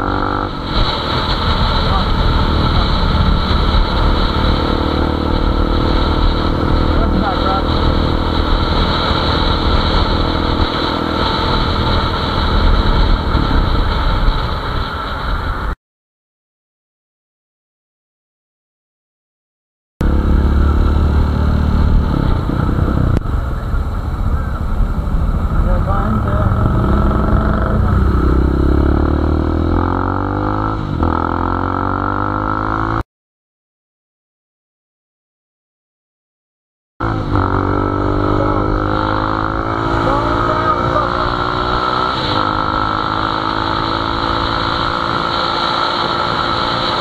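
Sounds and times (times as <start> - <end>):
motorcycle engine running: 0.0 - 15.7, 20.0 - 32.9, 37.0 - 47.0
road and wind noise: 0.0 - 15.8, 20.0 - 33.0, 37.0 - 47.0.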